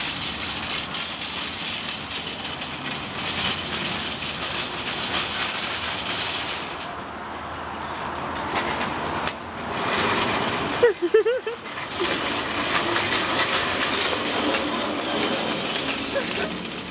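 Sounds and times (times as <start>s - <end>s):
small wheels rattling on concrete: 0.0s - 16.9s.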